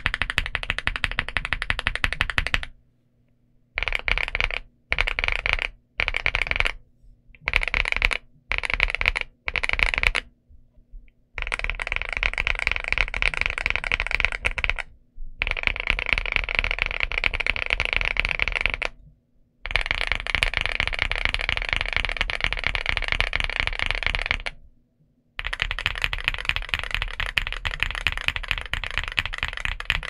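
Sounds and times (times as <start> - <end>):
mechanical keyboard typing: 0.0 - 2.7, 3.8 - 6.8, 7.4 - 10.3, 11.4 - 19.0, 19.7 - 24.6, 25.4 - 30.0.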